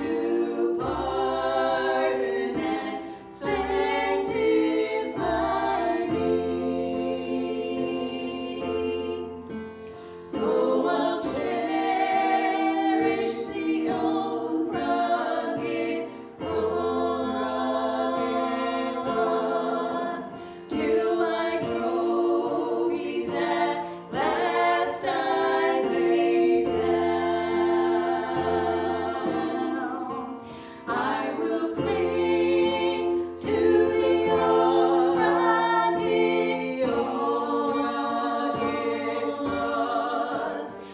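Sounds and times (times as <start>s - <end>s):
voices singing in harmony: 0.0s - 40.9s.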